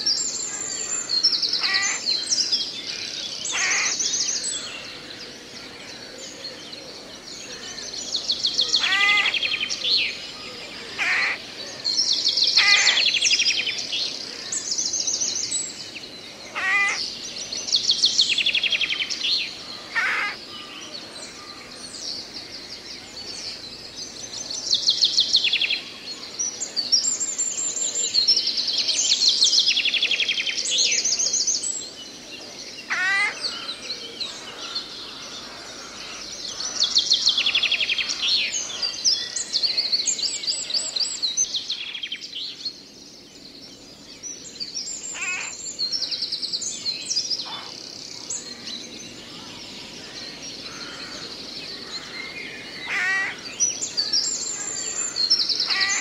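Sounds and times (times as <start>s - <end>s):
songbirds trilling: 0.0s - 56.0s.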